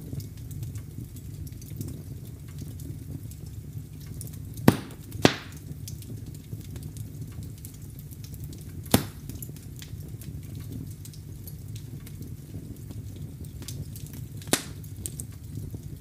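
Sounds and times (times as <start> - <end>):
fireplace fire crackling: 0.0 - 16.0
loud fire pops: 0.0 - 16.0
low rumble of flame: 0.0 - 16.0.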